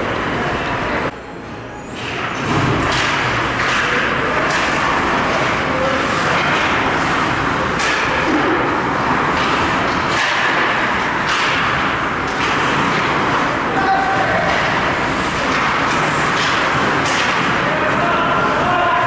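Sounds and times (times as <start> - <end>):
skate and crowd noise: 0.0 - 19.0.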